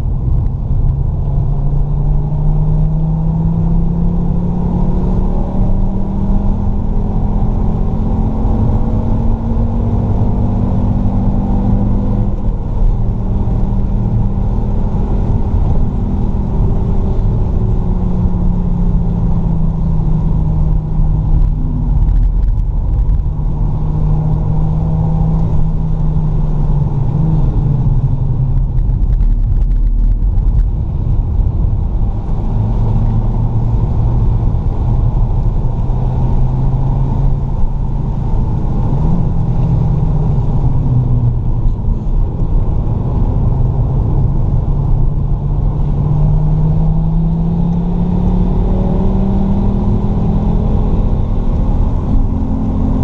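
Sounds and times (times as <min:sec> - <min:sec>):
car engine at speed: 0:00.0 - 0:53.0
low road rumble: 0:00.0 - 0:53.0.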